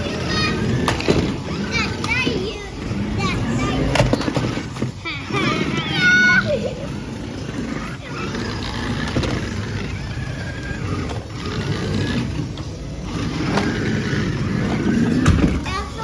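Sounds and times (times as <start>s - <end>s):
toy car motors whirring: 0.0s - 16.0s.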